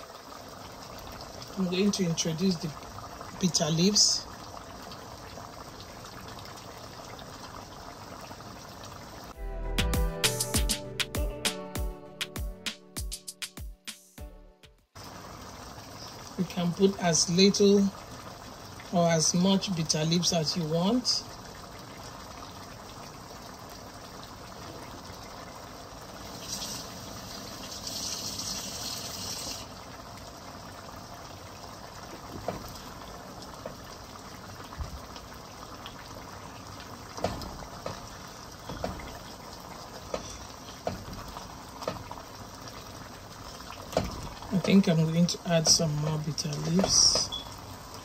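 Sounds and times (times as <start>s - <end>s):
soup bubbling in a pot: 0.0s - 9.4s, 15.0s - 48.0s.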